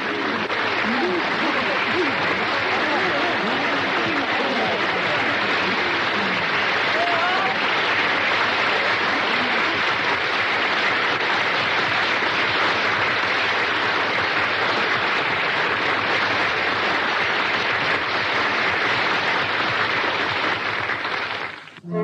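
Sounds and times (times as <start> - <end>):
audience applauding: 0.0 - 21.8.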